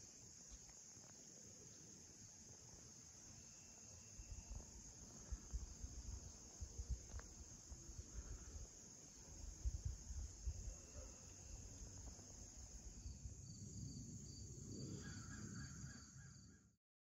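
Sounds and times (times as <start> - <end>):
crickets and insects chirping: 0.0 - 16.7.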